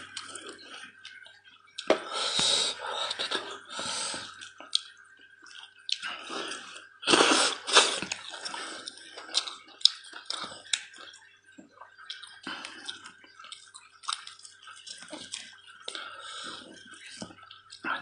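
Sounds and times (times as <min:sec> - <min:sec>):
wet chewing and smacking: 0:00.0 - 0:02.1, 0:03.1 - 0:18.0.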